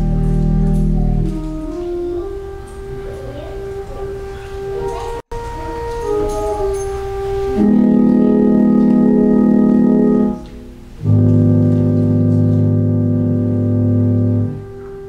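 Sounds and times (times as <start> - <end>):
organ holding chords: 0.0 - 15.0.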